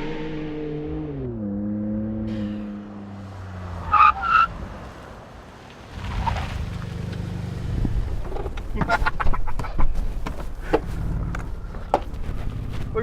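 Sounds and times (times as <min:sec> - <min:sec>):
tire chirps: 0:00.0 - 0:13.0.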